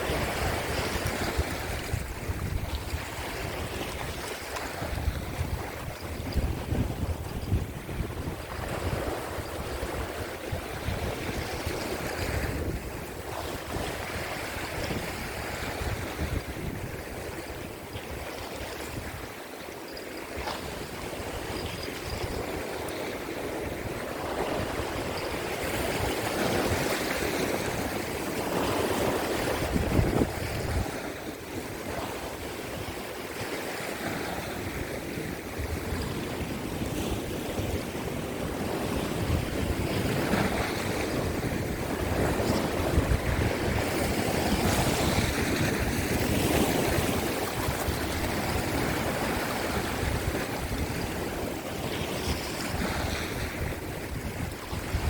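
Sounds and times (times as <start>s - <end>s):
gusty wind on microphone: 0.0s - 55.0s
sea waves breaking on rocks: 0.0s - 55.0s.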